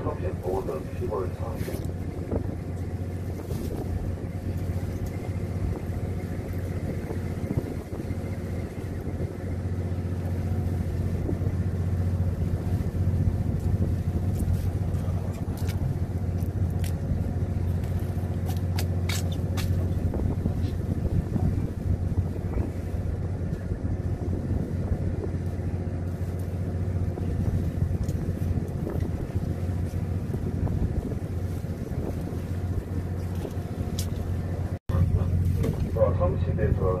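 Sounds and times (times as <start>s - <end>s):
boat machinery humming: 0.0s - 37.0s.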